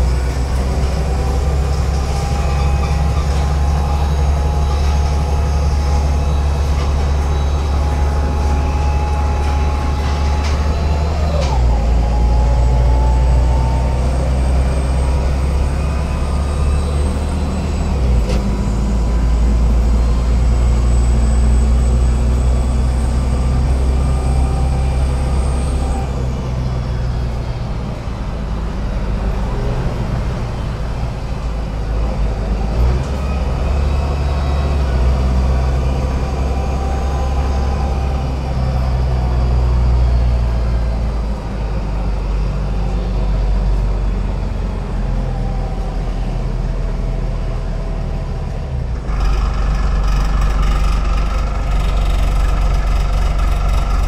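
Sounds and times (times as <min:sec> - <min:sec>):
bus diesel engine drone: 0:00.0 - 0:54.0.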